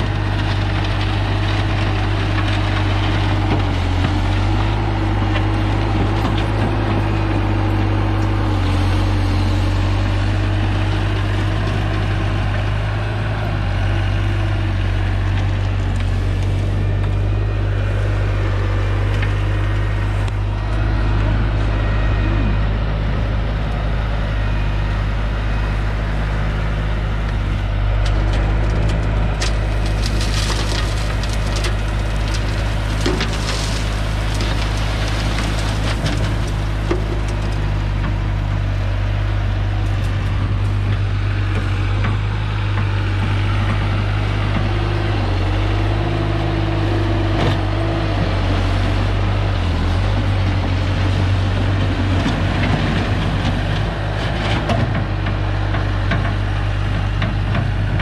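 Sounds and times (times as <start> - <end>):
asphalt millings crunching: 0.0 - 58.0
loader engine running: 0.0 - 58.0.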